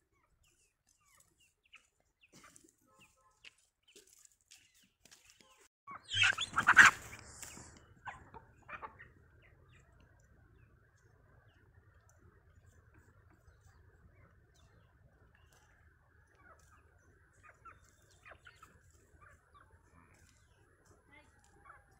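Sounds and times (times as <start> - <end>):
chickens clucking: 0.2 - 4.3, 5.9 - 21.9.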